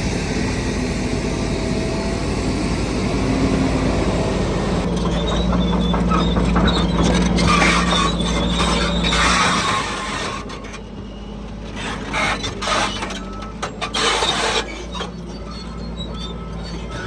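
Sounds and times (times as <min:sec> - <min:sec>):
diesel engine running: 0:00.0 - 0:17.0
machinery scraping and squealing: 0:00.0 - 0:17.0.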